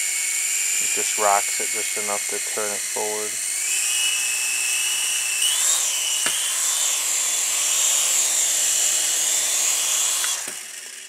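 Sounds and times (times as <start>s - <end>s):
toy helicopter motors whining: 0.0s - 11.0s.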